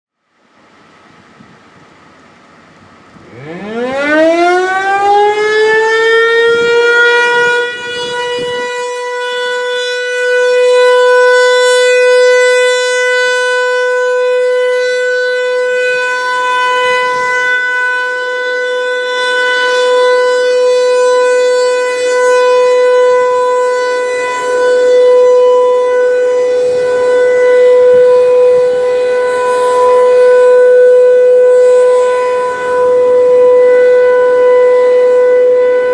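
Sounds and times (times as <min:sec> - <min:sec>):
warning siren winding up: 0:03.2 - 0:35.9.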